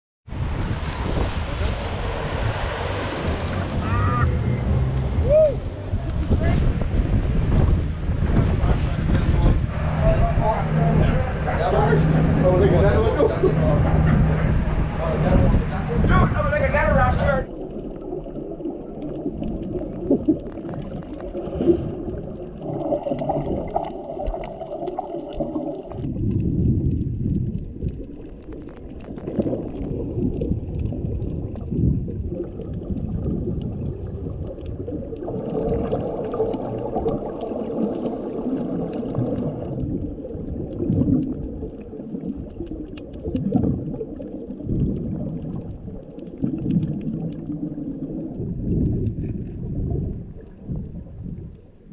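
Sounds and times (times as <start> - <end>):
underwater churning rumble: 0.2 - 51.9
water bubbling: 0.3 - 51.9.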